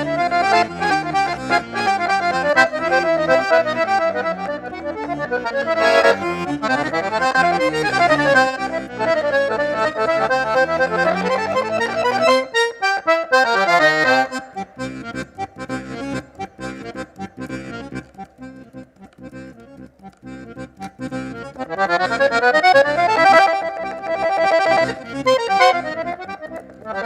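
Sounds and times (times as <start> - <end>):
accordion playing: 0.0 - 27.0.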